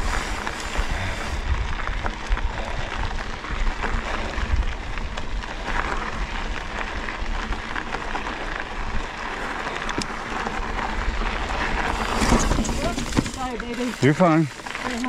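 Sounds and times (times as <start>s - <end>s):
bike tyres crunching on gravel: 0.0s - 15.0s
wind rumbling on microphone: 0.0s - 15.0s.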